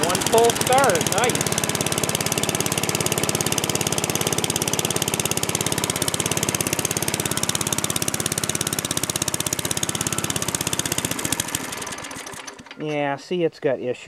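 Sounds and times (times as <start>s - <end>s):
lawn mower engine running: 0.0s - 13.2s.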